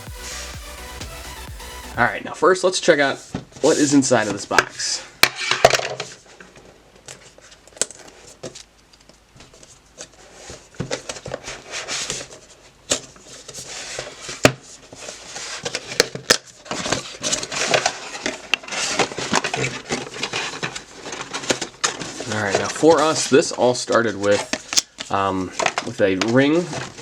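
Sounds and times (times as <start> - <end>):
cardboard packaging rustling: 2.8 - 27.0.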